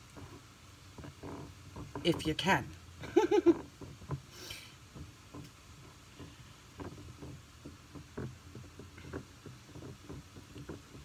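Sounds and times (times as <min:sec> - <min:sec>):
hands tapping and rubbing pie crust: 0:00.0 - 0:11.0.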